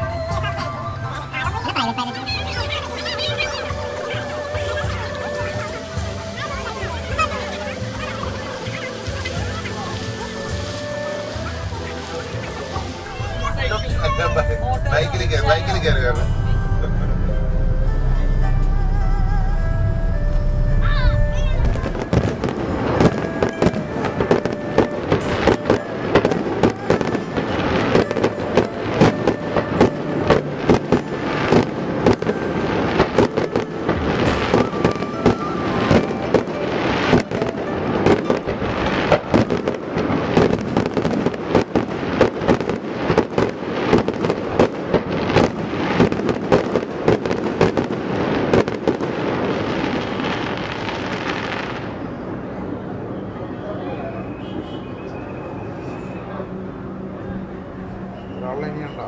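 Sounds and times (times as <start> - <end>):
fireworks bangs and crackles: 0.2 - 18.6, 21.1 - 53.6.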